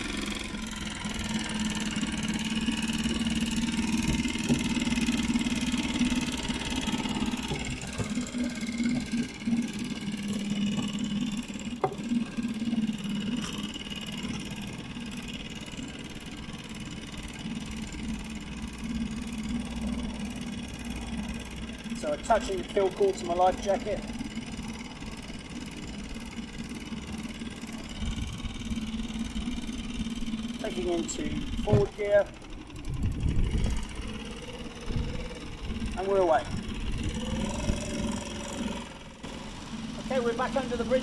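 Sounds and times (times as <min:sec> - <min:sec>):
outboard engine idling: 0:00.0 - 0:41.0.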